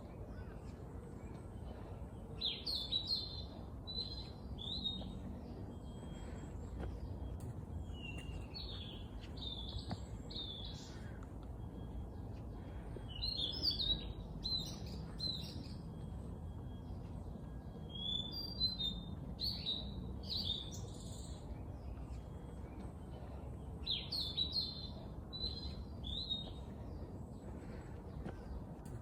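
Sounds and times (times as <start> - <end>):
low background noise: 0.0 - 29.0
songbirds chirping: 0.0 - 29.0.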